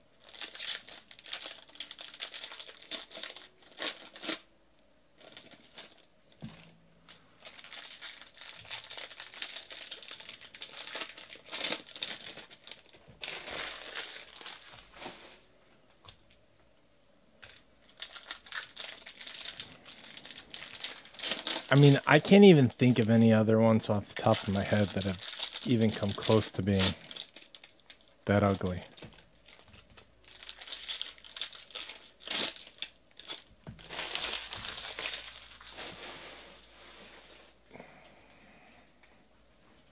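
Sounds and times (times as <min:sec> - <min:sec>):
foil wrappers crinkling and tearing: 0:00.2 - 0:04.5, 0:05.2 - 0:15.4, 0:17.4 - 0:23.3, 0:24.1 - 0:37.4.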